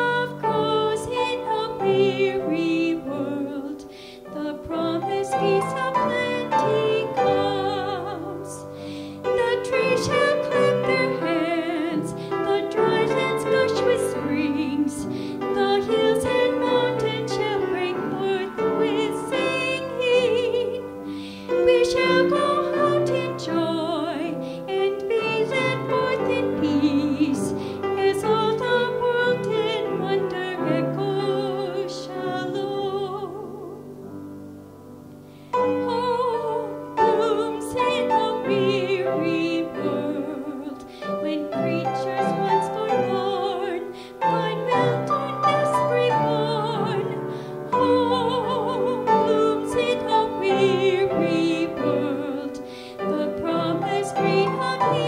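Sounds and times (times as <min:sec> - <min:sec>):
person singing a hymn: 0:00.0 - 0:34.5, 0:35.4 - 0:55.0
piano accompaniment: 0:00.0 - 0:55.0.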